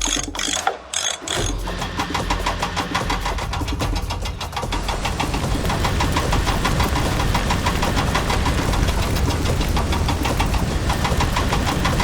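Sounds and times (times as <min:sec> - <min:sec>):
small engine knocking clatter: 0:00.0 - 0:12.0.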